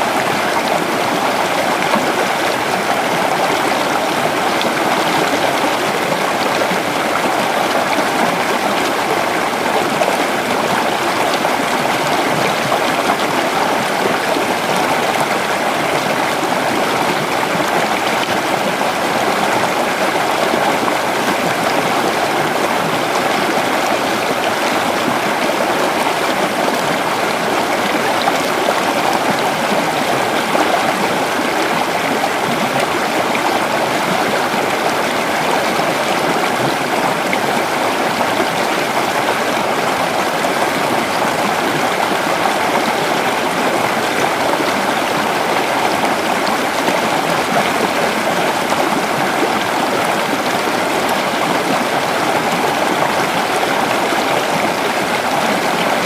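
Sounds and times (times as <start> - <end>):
creek water over rocks: 0.0 - 56.0.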